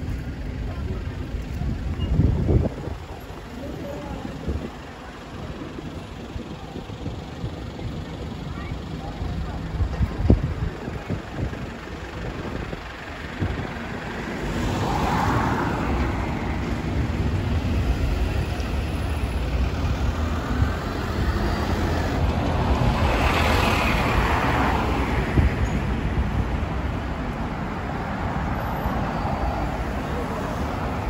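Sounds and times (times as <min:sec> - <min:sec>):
cars and buses passing: 0:00.0 - 0:31.0
low engine rumble of traffic: 0:00.0 - 0:31.0.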